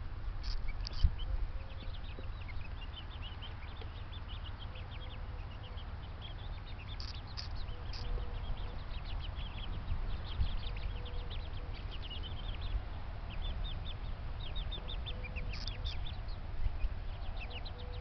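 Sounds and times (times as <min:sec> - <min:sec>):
birds chirping and peeping: 0:00.0 - 0:18.0.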